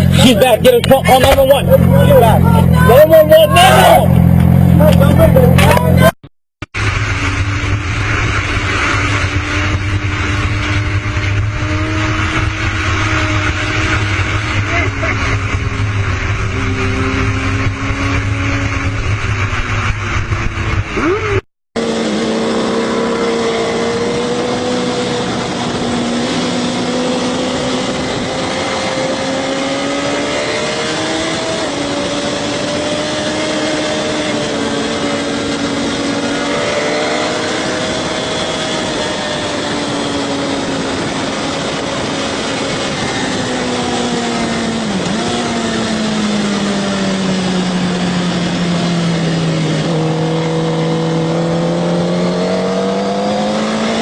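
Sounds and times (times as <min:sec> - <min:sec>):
motorcycle engine running: 0:00.0 - 0:06.1, 0:06.8 - 0:54.0
steady rushing noise: 0:00.0 - 0:06.1, 0:06.8 - 0:54.0.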